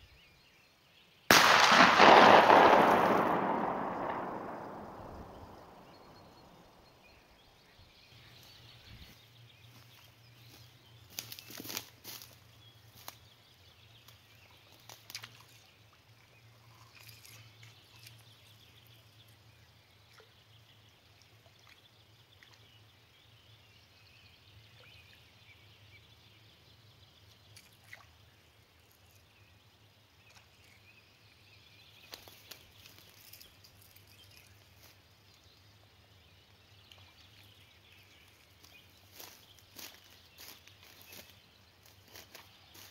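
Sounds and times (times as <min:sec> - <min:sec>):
distant songbirds twittering: 0:00.0 - 0:42.9.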